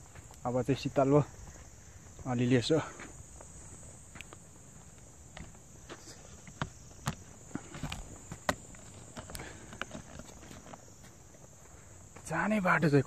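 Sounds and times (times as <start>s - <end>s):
footsteps on dry trail: 0.0s - 12.9s
insect chorus: 0.0s - 13.0s.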